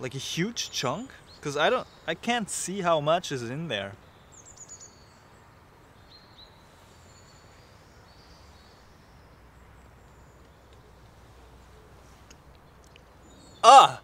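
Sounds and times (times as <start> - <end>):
bird chirps and trills: 0.0 - 14.0.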